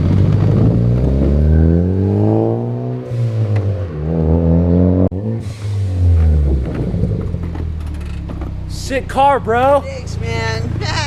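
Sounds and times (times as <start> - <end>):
car exhaust accelerating: 0.0 - 11.0.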